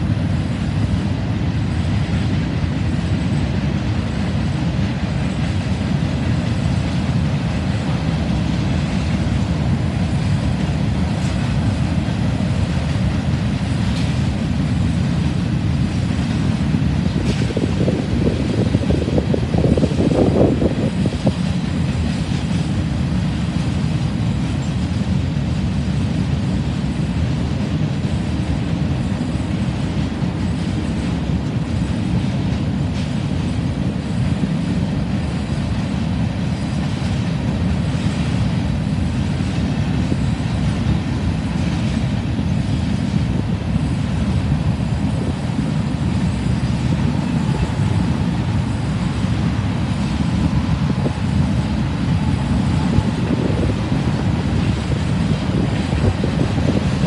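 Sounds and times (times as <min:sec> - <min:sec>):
freight cars rumbling on rails: 0:00.0 - 0:57.0.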